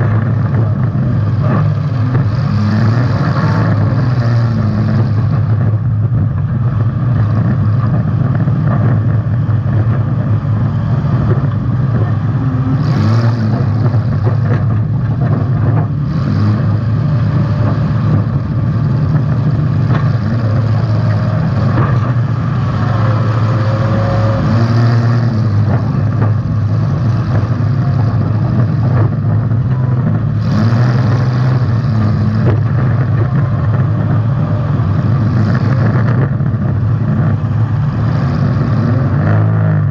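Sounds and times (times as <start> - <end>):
car engine revving hard: 0.0 - 5.9, 6.8 - 39.9.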